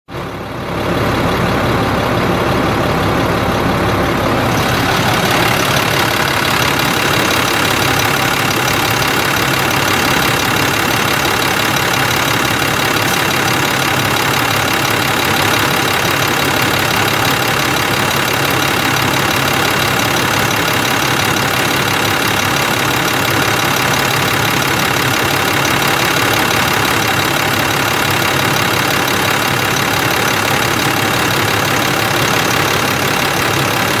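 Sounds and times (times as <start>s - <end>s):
diesel truck engine idling: 0.1s - 34.0s.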